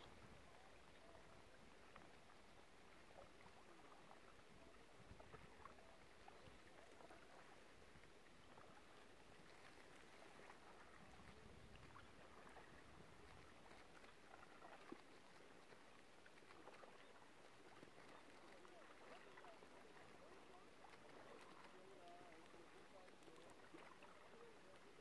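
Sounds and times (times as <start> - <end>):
small water ticks: 0.0 - 25.0.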